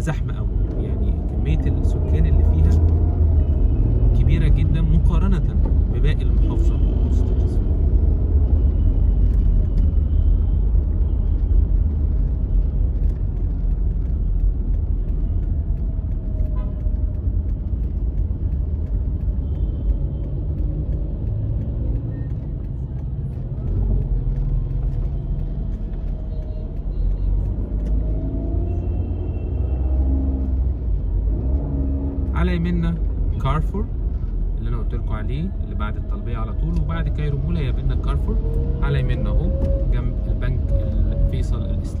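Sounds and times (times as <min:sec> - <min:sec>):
car engine rumble: 0:00.0 - 0:42.0
road noise: 0:00.0 - 0:42.0.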